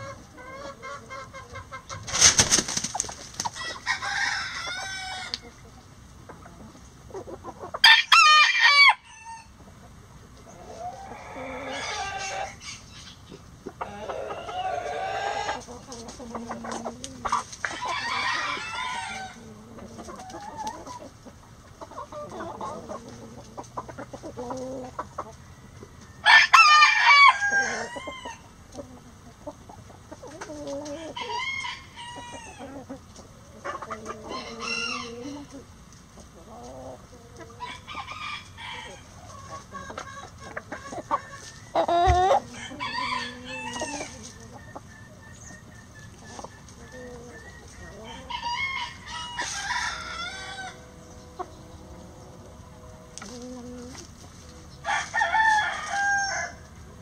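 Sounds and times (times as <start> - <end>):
roosters crowing: 0.0 - 5.8, 6.5 - 9.6, 10.5 - 21.2, 21.8 - 29.1, 30.2 - 57.0
hens clucking: 0.0 - 57.0.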